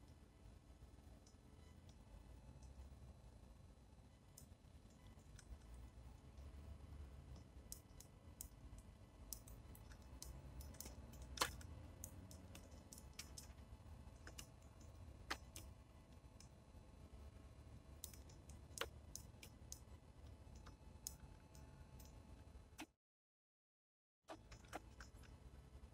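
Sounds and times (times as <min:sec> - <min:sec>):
faint low rumble: 0:00.0 - 0:22.8.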